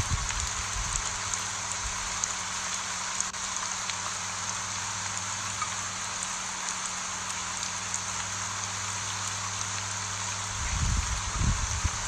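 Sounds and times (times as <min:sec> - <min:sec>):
rain falling on leaves: 0:00.0 - 0:12.0.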